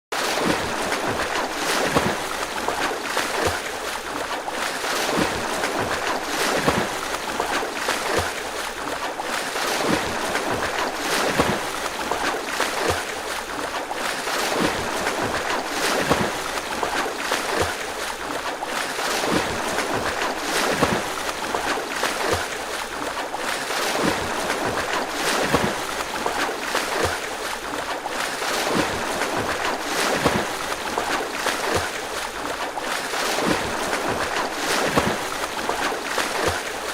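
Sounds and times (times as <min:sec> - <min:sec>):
churning water: 0:00.1 - 0:36.9
swimming strokes splashing: 0:00.1 - 0:36.9.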